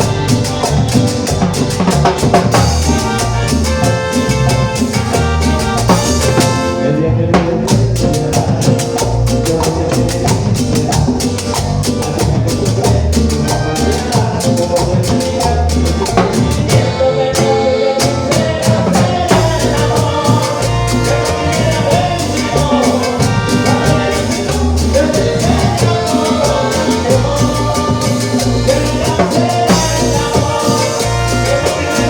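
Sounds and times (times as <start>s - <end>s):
salsa dance music: 0.0s - 32.0s.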